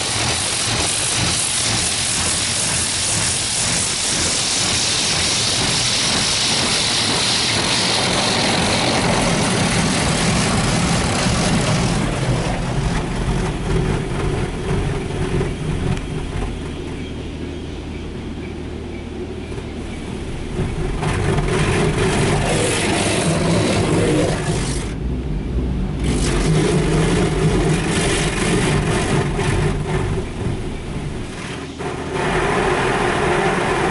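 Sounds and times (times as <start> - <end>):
water jets spraying car: 0.0 - 17.6, 18.6 - 33.9
low machine hum: 0.0 - 33.9.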